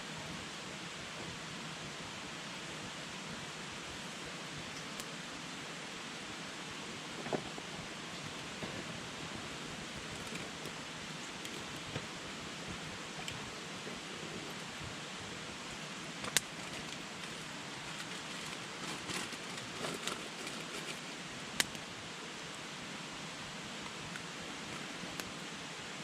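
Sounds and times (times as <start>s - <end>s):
campfire hissing and crackling: 0.0s - 26.0s.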